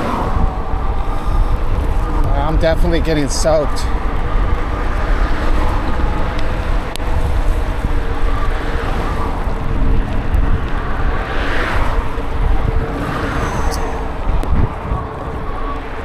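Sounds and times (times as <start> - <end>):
hiss of wet road and rain: 0.0 - 16.0
wind buffeting microphone: 0.0 - 16.0.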